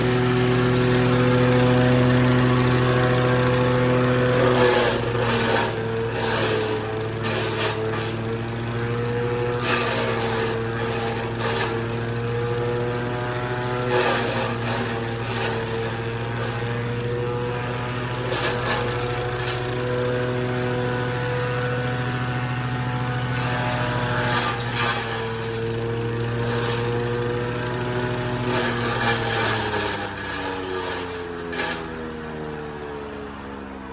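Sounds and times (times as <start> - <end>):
forage being shredded: 0.0 - 33.9
grass chopper machine humming: 0.0 - 33.9.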